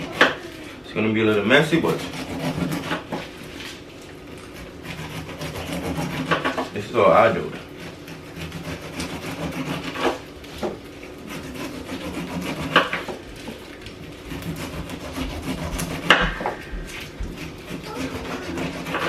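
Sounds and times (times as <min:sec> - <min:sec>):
knife cutting pineapple rind: 0:00.0 - 0:19.0.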